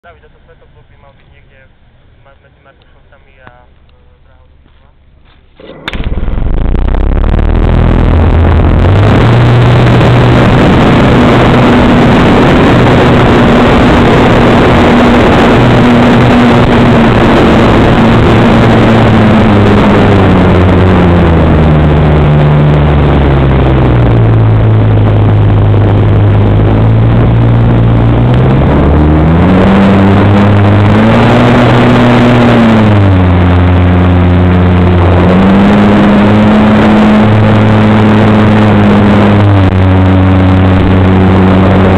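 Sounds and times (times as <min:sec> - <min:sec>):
model airplane motor and propeller: 0:02.8 - 0:41.9
rush of air: 0:05.4 - 0:41.9.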